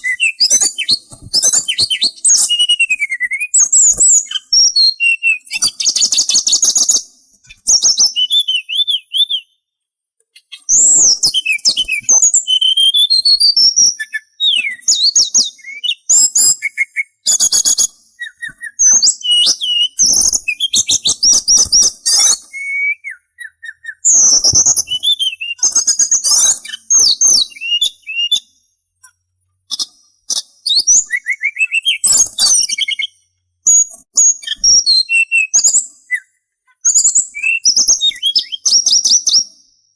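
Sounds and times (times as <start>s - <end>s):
songbird singing: 0.0s - 9.7s, 10.3s - 39.7s.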